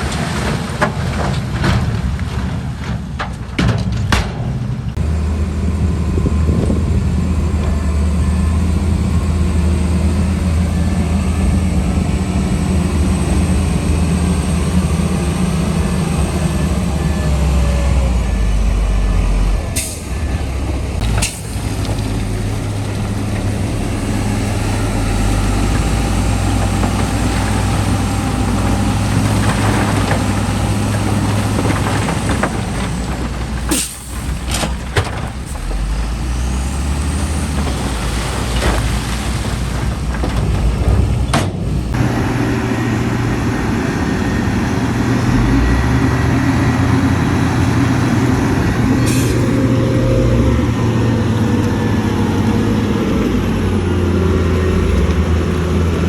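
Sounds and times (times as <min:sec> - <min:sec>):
heavy diesel machinery running: 0:04.8 - 0:56.0.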